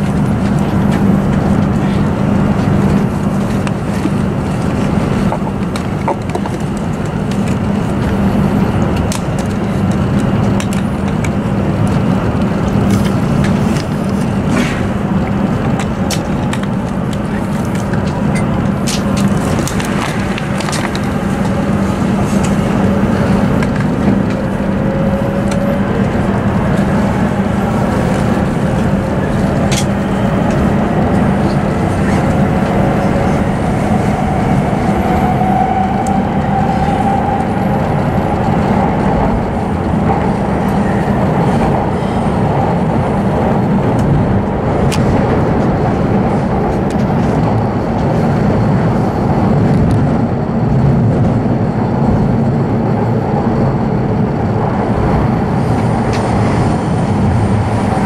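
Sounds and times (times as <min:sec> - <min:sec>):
train rumbling with low hum: 0:00.0 - 0:58.0.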